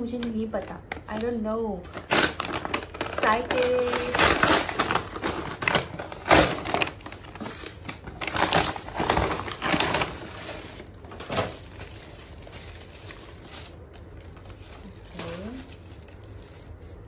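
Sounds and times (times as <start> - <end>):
plastic parcel rustling: 0.0 - 17.0
paper bag tearing and crumpling: 1.9 - 17.0.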